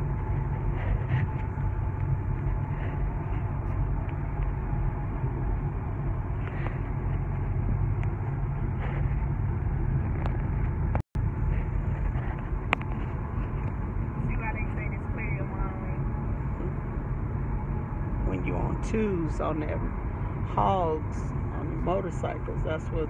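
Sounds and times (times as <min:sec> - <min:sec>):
car cabin road and engine rumble: 0:00.0 - 0:23.0.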